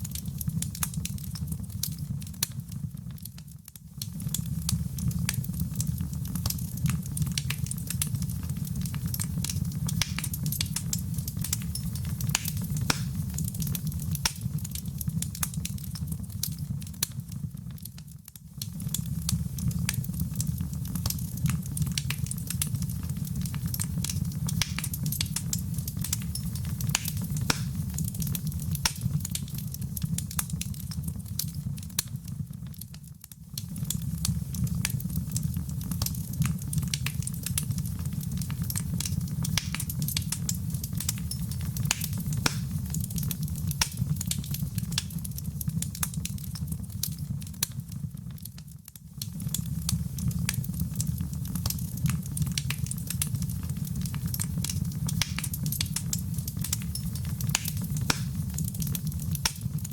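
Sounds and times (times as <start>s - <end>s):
fire crackling and popping: 0.0s - 59.9s
fireplace fire rumbling: 0.0s - 59.9s.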